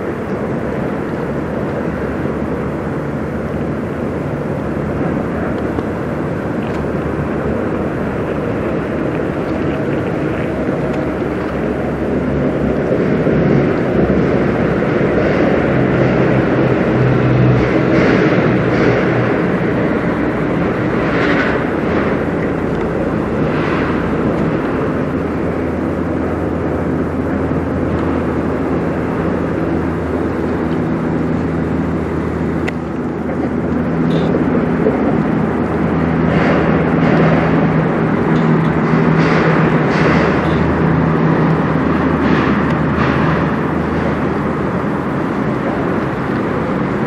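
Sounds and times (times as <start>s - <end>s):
ship diesel engines droning: 0.0s - 47.0s.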